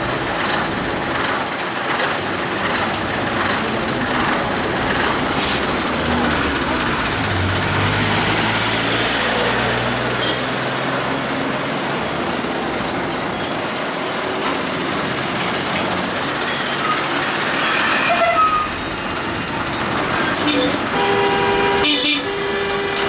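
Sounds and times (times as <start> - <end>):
heavy diesel traffic: 0.0 - 23.0.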